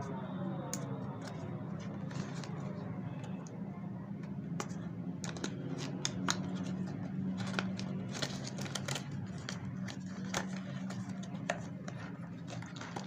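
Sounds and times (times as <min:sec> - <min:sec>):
low steady hum: 0:00.0 - 0:13.0
packaging clicks and rustles: 0:00.6 - 0:13.0.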